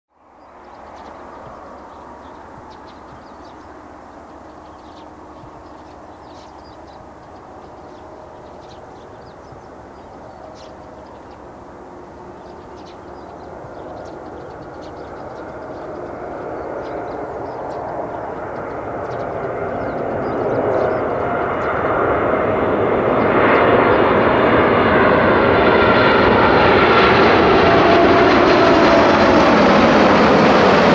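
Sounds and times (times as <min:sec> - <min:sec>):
jet engine rumble and whine: 0:00.2 - 0:30.9.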